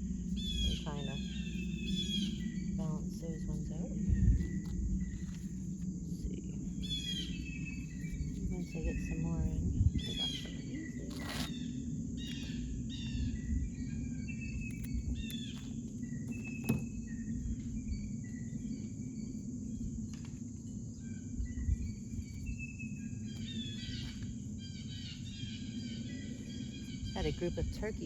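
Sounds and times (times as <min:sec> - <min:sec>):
low outdoor rumble: 0:00.0 - 0:28.0
songbirds chirping: 0:00.0 - 0:28.0.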